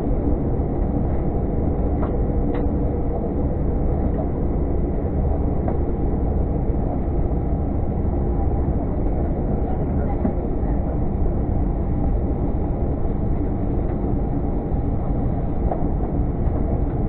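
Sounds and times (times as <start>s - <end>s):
aircraft engines humming: 0.0s - 17.0s.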